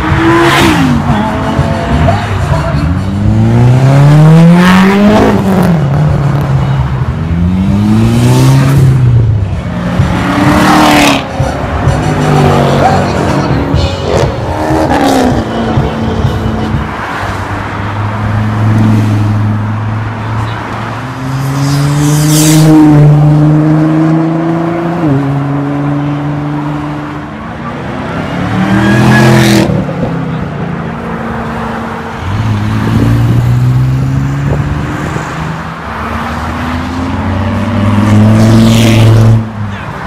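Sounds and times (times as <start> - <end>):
car engines accelerating hard: 0.0 - 40.0.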